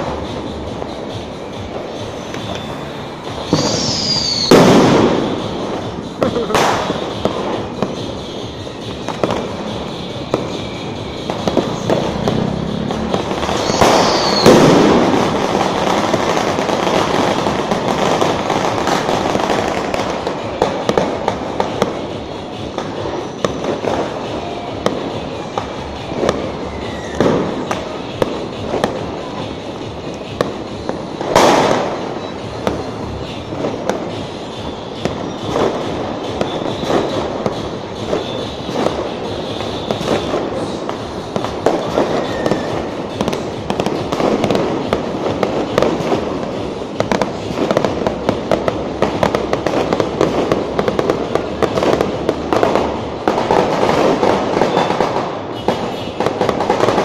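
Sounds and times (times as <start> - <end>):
firecrackers popping: 0.0 - 57.0
loud firework blasts: 0.0 - 57.0.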